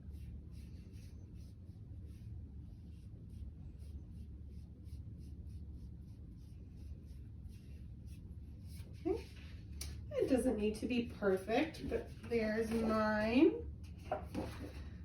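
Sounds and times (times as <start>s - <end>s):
sponge brush stroking paper: 0.0s - 13.2s
low steady hum: 0.0s - 15.0s.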